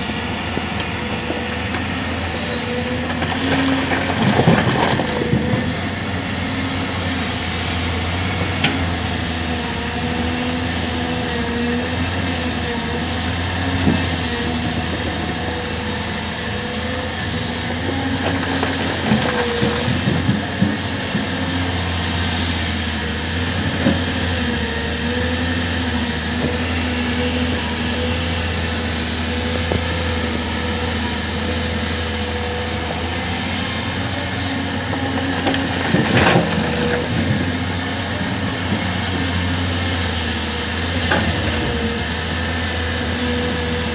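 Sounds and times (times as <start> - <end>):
excavator diesel engine: 0.0 - 43.9.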